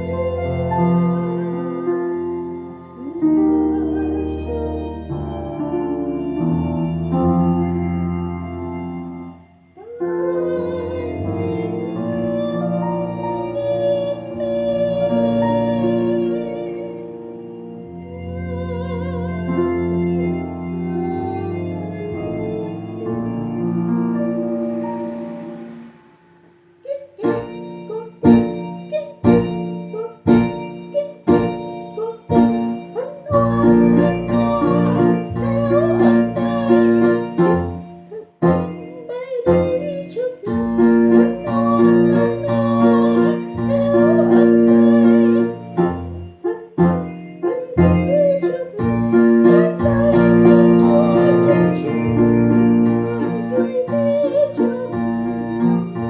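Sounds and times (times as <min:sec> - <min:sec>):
piano music: 0:00.0 - 0:56.0.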